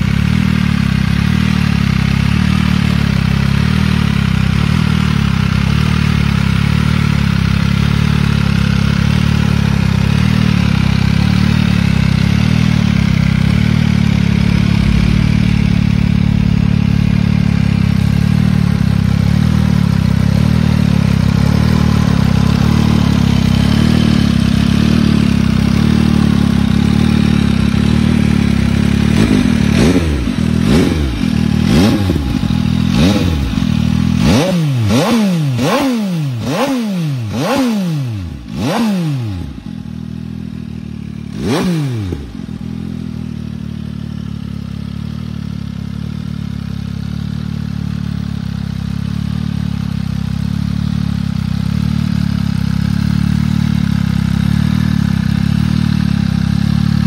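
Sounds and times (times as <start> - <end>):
motorcycle engine idling: 0.0 - 57.0
motorcycle engine revving: 0.0 - 57.0.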